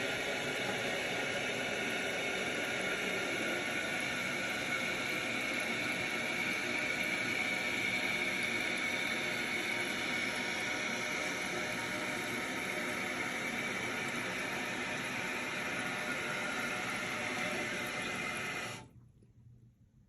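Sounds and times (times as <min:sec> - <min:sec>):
toilet cistern fill valve hissing: 0:00.0 - 0:18.9.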